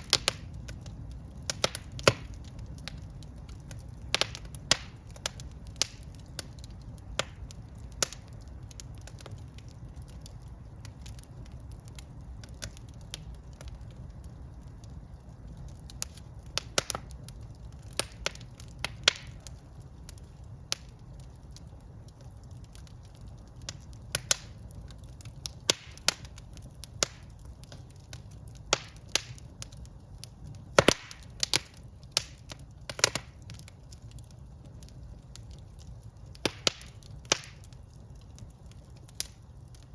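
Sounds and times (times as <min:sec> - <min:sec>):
fire flames rumbling: 0:00.0 - 0:39.9
wood fire crackling and popping: 0:00.0 - 0:39.9.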